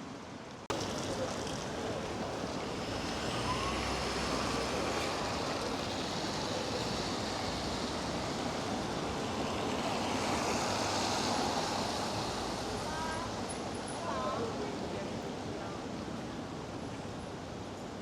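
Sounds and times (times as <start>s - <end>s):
traffic hiss on wet streets: 0.0s - 18.0s
steady rain: 0.4s - 18.0s.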